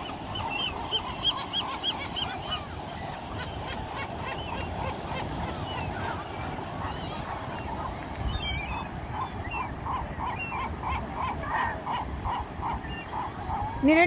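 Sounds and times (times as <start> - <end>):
gulls calling: 0.0 - 14.0
surf: 0.0 - 14.0
wind: 0.0 - 14.0.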